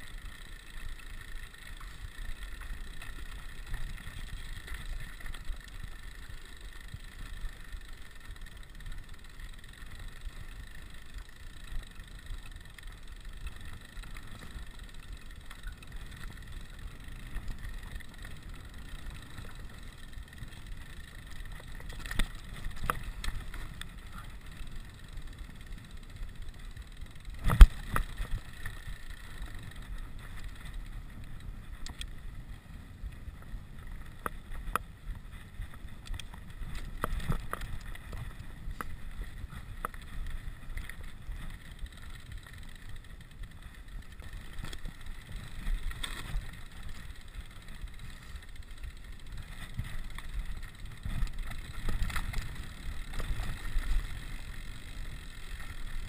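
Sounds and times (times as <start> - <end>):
bike rattling: 0.0 - 56.0
bike tyres on gravel: 0.0 - 56.0.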